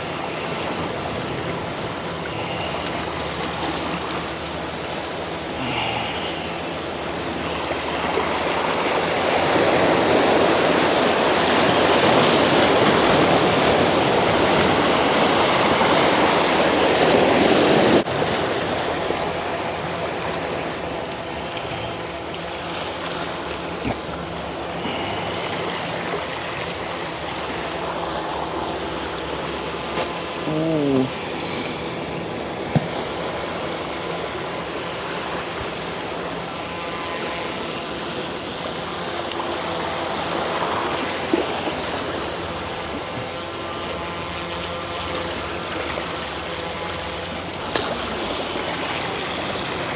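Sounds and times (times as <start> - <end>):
seawater rushing through rocks: 0.0 - 49.9.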